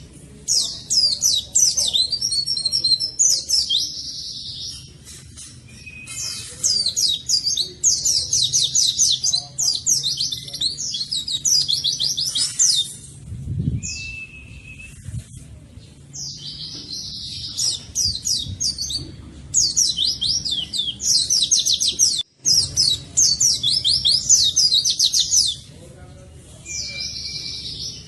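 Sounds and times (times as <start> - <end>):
bird singing high warbling song: 0.0 - 25.8, 26.6 - 28.0.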